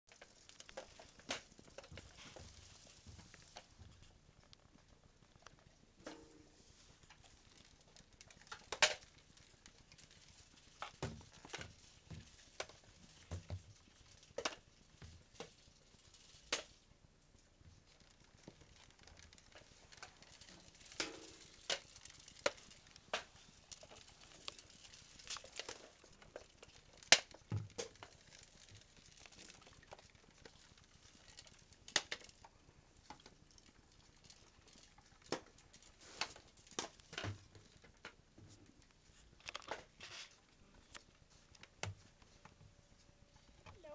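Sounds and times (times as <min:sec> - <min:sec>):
hamster balls rolling and knocking: 0:00.1 - 0:43.9.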